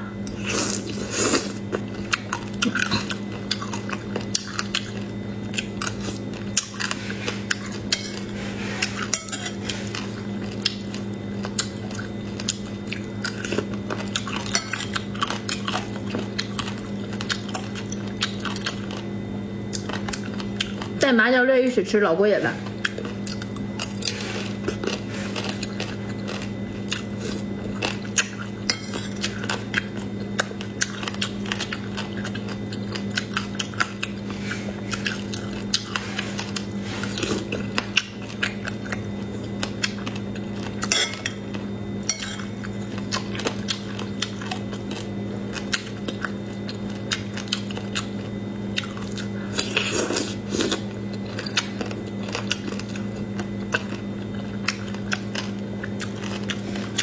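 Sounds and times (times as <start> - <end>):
chewing and biting: 0.2 - 21.0, 22.6 - 57.0.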